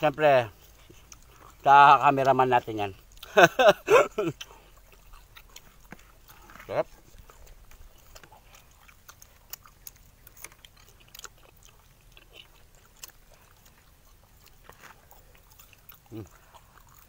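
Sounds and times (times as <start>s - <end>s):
chewing mouth clicks: 0.1s - 17.0s.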